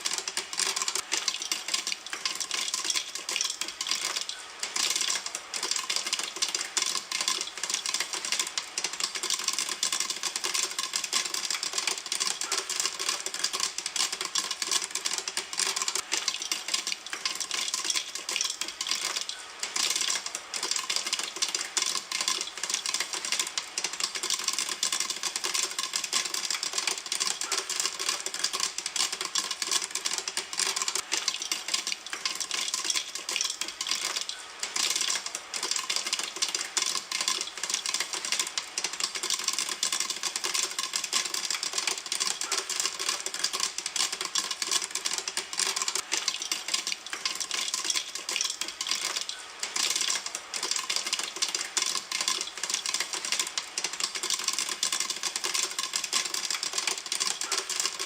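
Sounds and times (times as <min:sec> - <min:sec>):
popcorn popping in a pan: 0:00.0 - 0:58.0.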